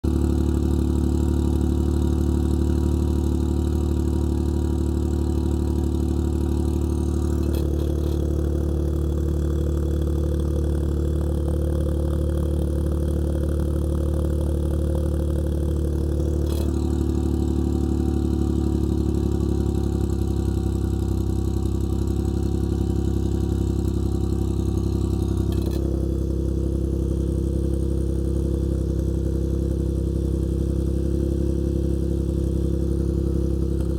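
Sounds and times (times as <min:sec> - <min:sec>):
engine idling through exhaust: 0:00.0 - 0:33.9.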